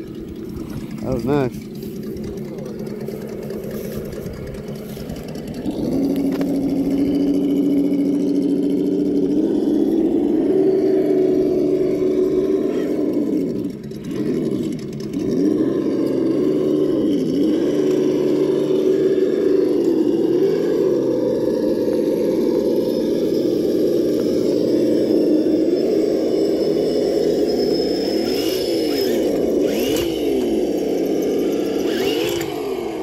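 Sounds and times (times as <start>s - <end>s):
rc crawler motor whining: 0.0s - 33.0s.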